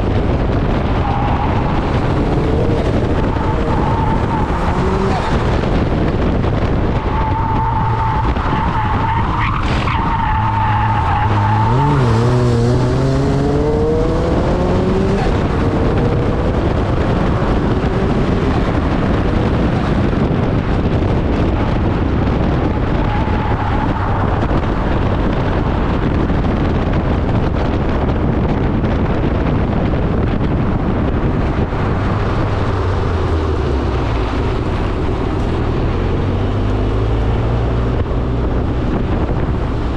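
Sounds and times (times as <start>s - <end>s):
car engine revving: 0.0s - 27.2s, 30.7s - 39.9s
wind and road noise: 0.0s - 39.9s.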